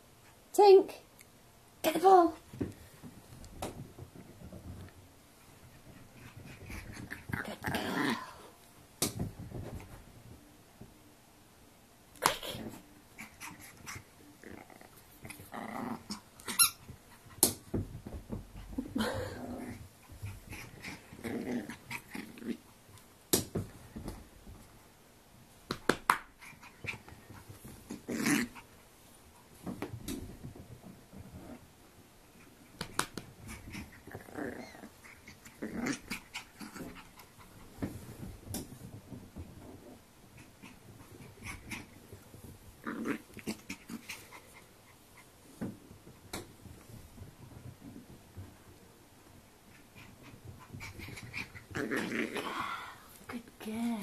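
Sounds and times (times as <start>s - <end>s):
puppy play growling: 2.4s - 10.4s, 12.2s - 24.8s, 26.0s - 53.6s.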